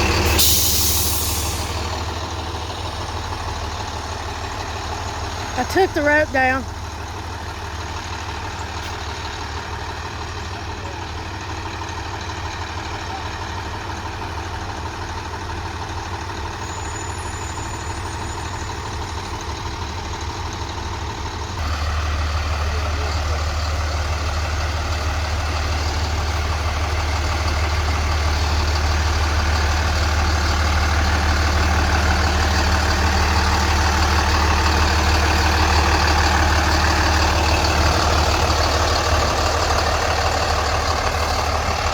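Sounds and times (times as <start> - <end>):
heavy vehicle engine running: 0.0 - 41.9.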